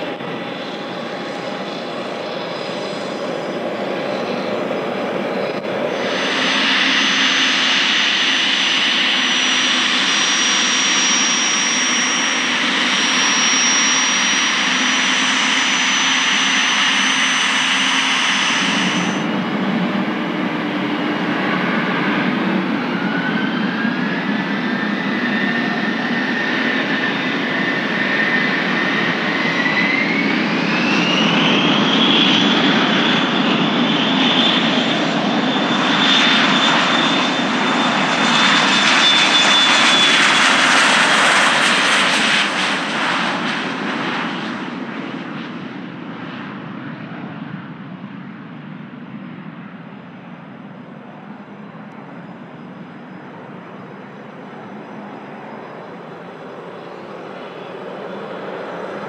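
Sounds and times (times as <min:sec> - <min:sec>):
jet engine roar: 0:00.0 - 0:59.0
jet engine whine: 0:00.0 - 0:59.0.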